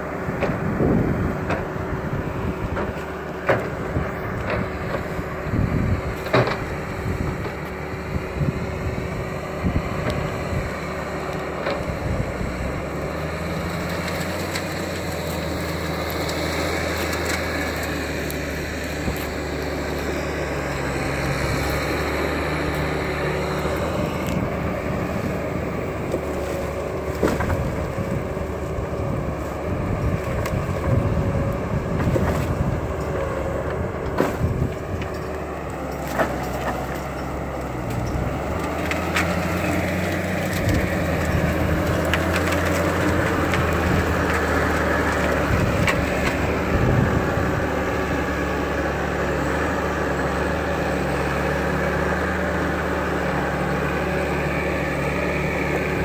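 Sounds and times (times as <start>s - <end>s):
forwarder engine running: 0.0s - 56.0s.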